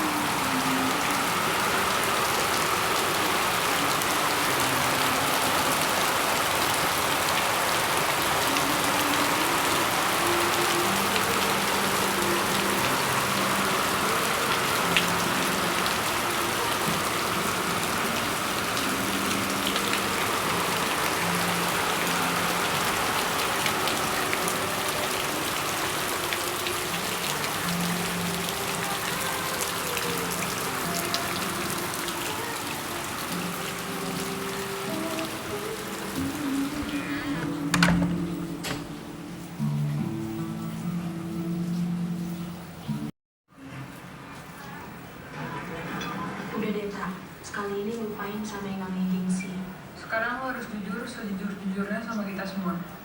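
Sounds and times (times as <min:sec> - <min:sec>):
rain falling on a surface: 0:00.0 - 0:53.0.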